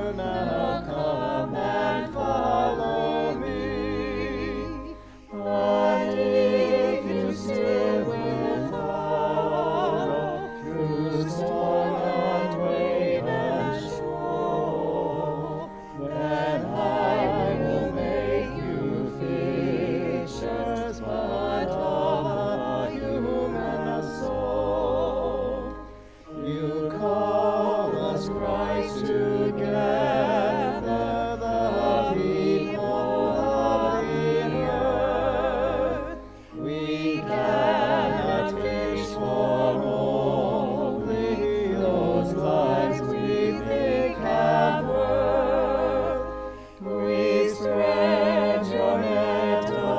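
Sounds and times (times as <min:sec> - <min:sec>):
low accompanying notes: 0:00.0 - 0:49.9
voices singing a hymn: 0:00.0 - 0:49.9.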